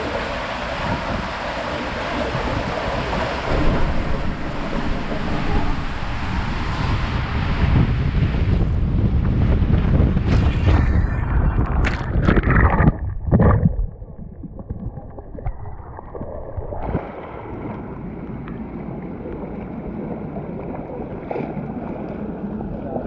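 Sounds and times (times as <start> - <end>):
water splashing: 0.0 - 8.1, 10.3 - 23.0
rushing water: 0.0 - 8.9, 10.0 - 23.0
wind: 0.0 - 14.6, 16.8 - 23.0.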